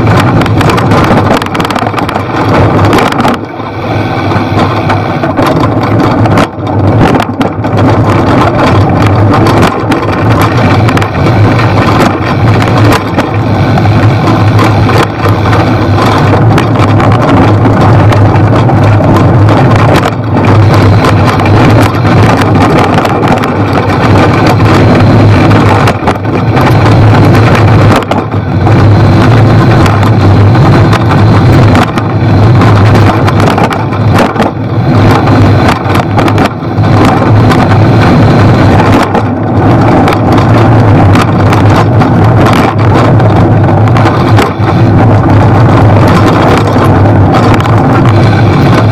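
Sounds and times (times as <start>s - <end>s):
bicycle knocking and rattling: 0.0s - 48.9s
bicycle tyres rushing on dirt: 0.0s - 48.9s
wind on microphone: 0.0s - 48.9s.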